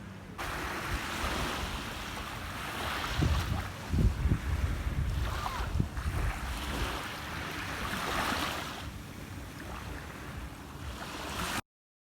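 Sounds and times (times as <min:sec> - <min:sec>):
wind buffeting microphone: 0:00.4 - 0:11.4
sea waves washing on shore: 0:00.4 - 0:11.6.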